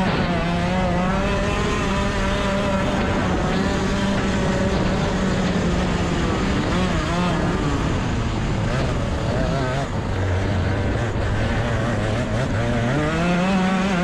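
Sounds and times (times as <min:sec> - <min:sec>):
kart engine running hard: 0:00.0 - 0:14.0
wind rushing over microphone: 0:00.0 - 0:14.0.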